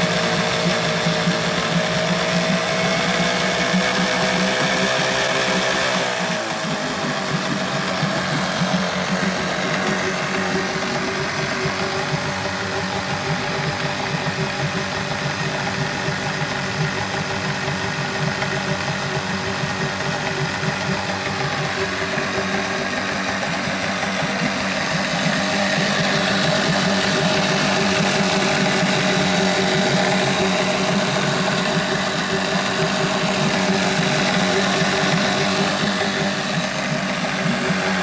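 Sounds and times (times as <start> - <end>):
outboard motor buzzing: 0.0 - 38.0.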